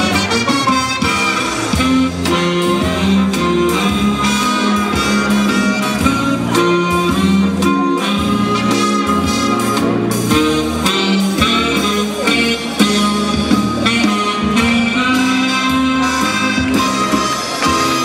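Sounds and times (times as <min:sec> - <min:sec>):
slow foxtrot dance music: 0:00.0 - 0:18.0.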